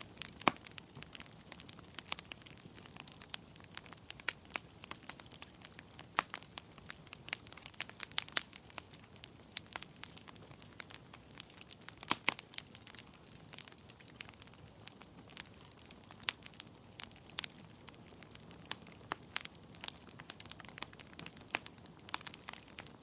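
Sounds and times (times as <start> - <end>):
wood logs crackling and popping: 0.0 - 23.0.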